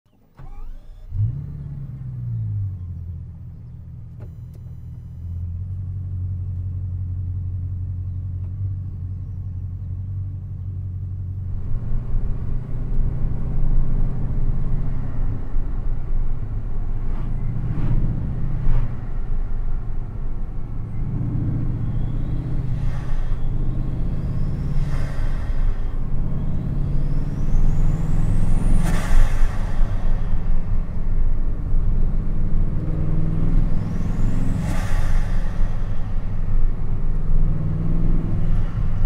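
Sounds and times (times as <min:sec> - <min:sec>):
car engine starting and idling: 0:00.1 - 0:39.0
car pulling away: 0:00.1 - 0:39.0.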